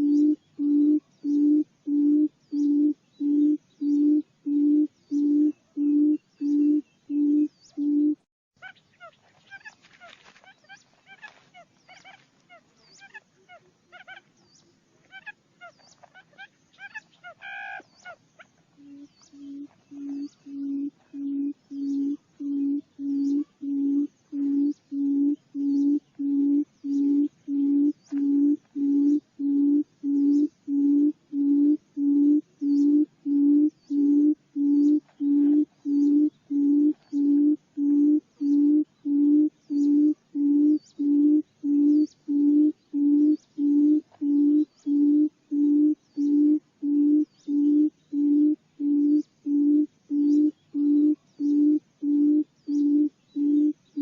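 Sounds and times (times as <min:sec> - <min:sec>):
bird hooting call: 0:00.0 - 0:14.3, 0:15.0 - 0:54.0.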